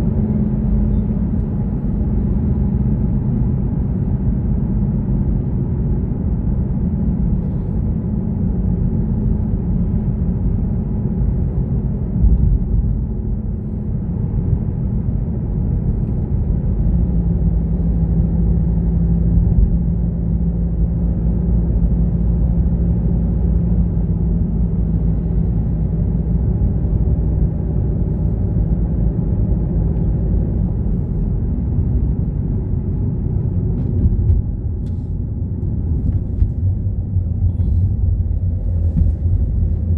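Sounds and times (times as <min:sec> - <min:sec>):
car engine rumble: 0:00.0 - 0:39.9
steady engine tone: 0:00.0 - 0:39.9.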